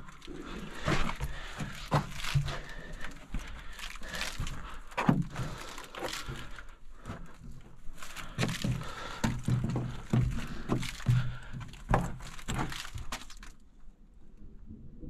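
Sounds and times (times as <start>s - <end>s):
person crawling through dirt tunnel: 0.0s - 13.7s.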